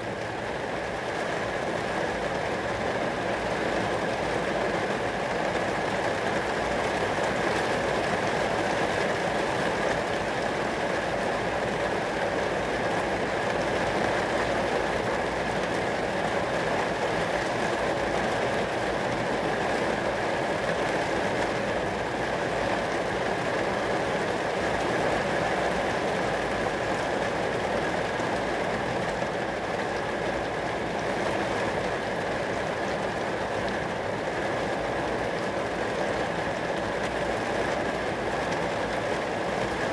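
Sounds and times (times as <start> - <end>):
rain falling on glass: 0.0 - 39.9.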